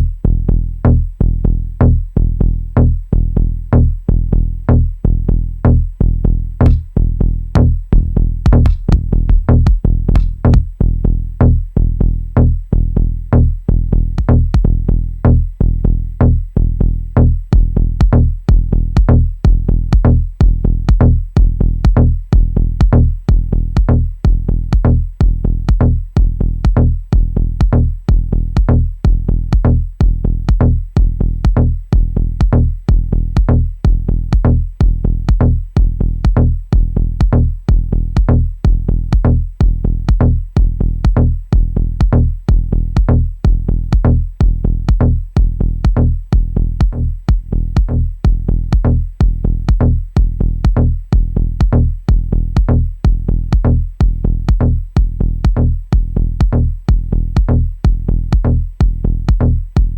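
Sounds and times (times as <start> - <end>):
drum machine beat: 0.0 - 59.9
sustained deep bass: 0.0 - 59.9.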